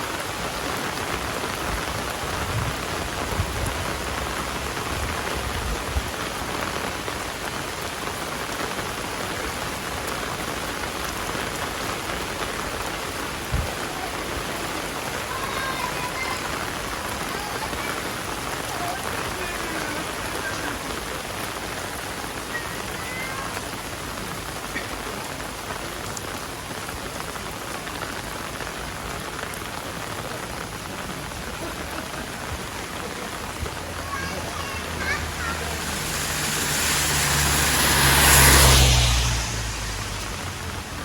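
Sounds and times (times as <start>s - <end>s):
heavy rain hissing: 0.0s - 41.0s.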